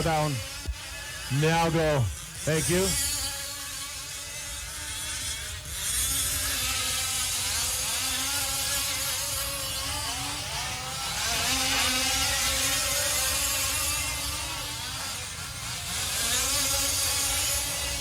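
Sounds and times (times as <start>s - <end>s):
small two-stroke engines buzzing: 0.0s - 18.0s.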